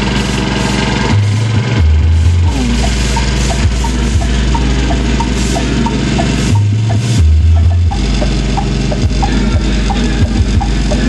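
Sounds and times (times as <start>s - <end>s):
held bass notes: 0.0s - 11.0s.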